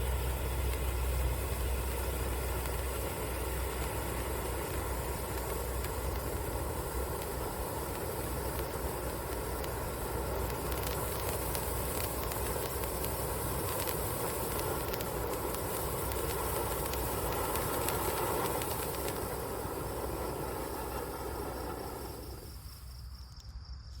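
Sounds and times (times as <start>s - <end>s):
firework fountain hissing and crackling: 0.0s - 23.2s.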